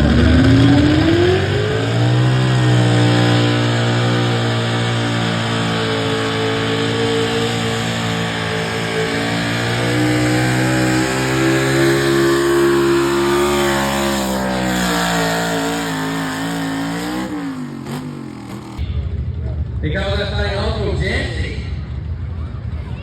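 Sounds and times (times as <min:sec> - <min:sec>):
truck engine at full throttle: 0:00.0 - 0:19.6.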